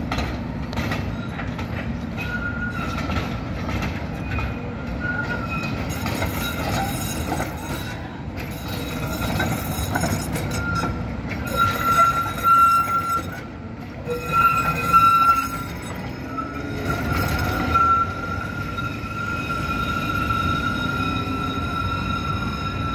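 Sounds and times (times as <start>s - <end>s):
tram wheels squealing on rails: 0.0s - 22.9s
trams rumbling along track: 0.0s - 22.9s.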